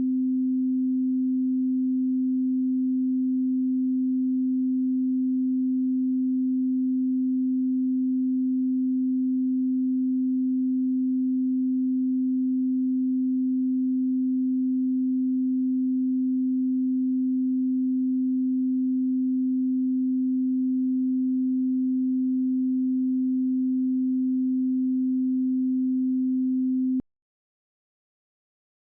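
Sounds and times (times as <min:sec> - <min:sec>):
pure sine tone: 0:00.0 - 0:27.0.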